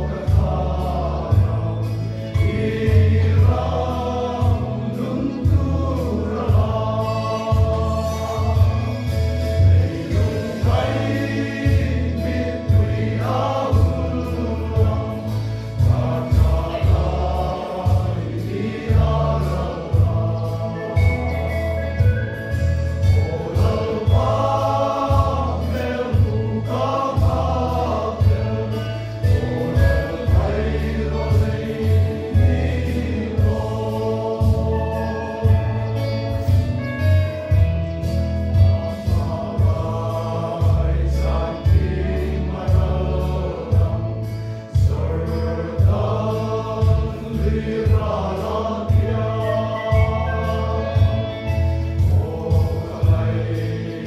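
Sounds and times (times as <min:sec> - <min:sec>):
congregation singing a hymn: 0:00.0 - 0:54.0
drum beats: 0:00.0 - 0:54.0.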